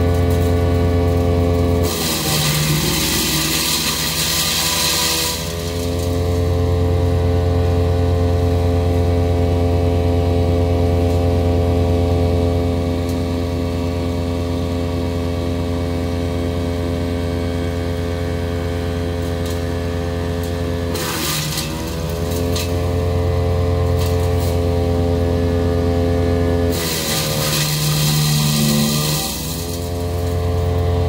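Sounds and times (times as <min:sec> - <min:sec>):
wood chipper engine droning: 0:00.0 - 0:31.0.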